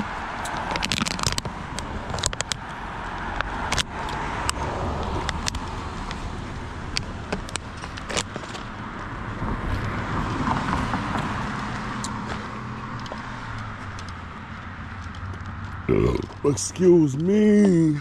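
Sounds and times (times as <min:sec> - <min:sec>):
car passing: 0:00.0 - 0:18.0
street noise: 0:00.0 - 0:18.0.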